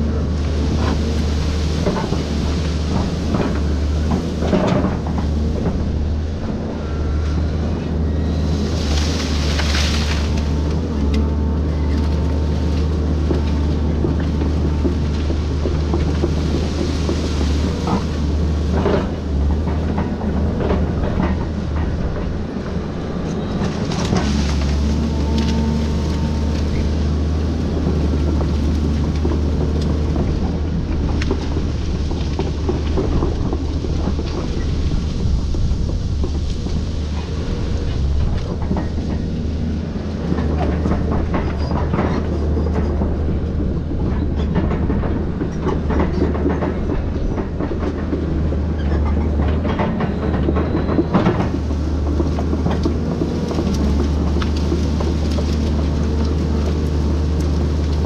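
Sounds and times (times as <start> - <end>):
excavator diesel engine drone: 0.0 - 58.0
knocks and clatter: 0.4 - 6.5, 8.7 - 58.0.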